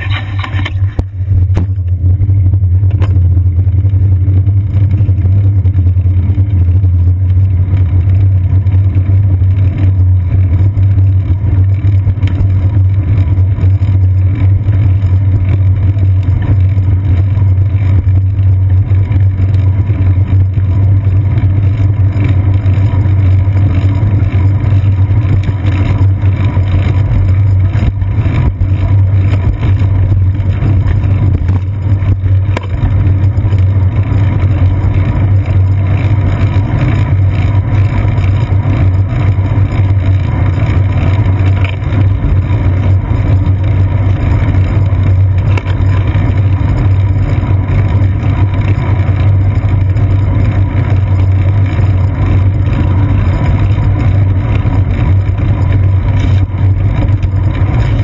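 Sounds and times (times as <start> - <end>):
bicycle rolling over pavement: 0.0 - 58.0
wind: 0.0 - 58.0.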